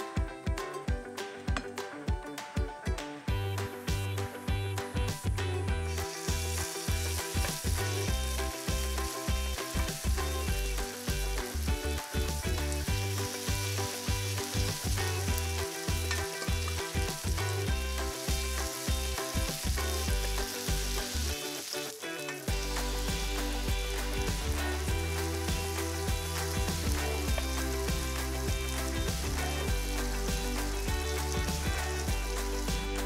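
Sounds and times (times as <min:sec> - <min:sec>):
background music: 0:00.0 - 0:33.0
batter sizzling in hot oil: 0:05.3 - 0:33.0.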